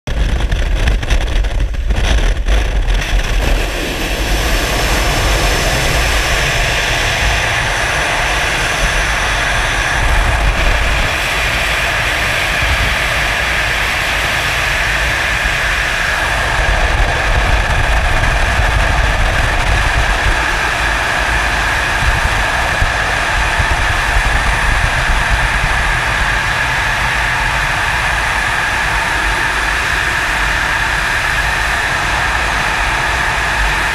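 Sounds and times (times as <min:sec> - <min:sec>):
aircraft engine noise: 0:00.1 - 0:33.9
wind roar: 0:00.1 - 0:33.9.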